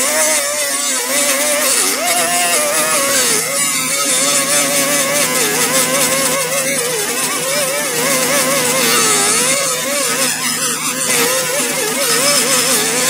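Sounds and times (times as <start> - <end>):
air grinder hissing and whining: 0.0 - 13.0.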